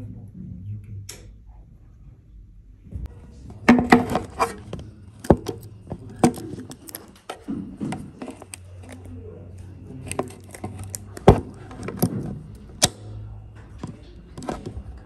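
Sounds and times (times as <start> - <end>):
muffled voices: 0.0 - 15.0.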